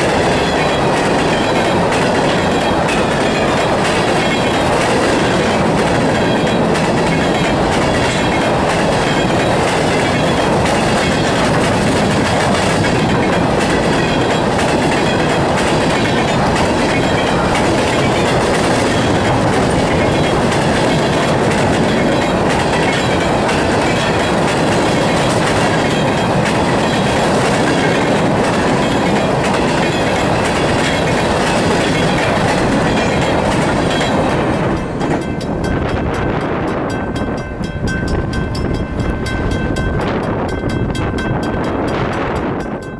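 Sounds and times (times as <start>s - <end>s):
clickety-clack over rail joints: 0.0s - 42.9s
rumble of train wheels on rail: 0.0s - 42.9s.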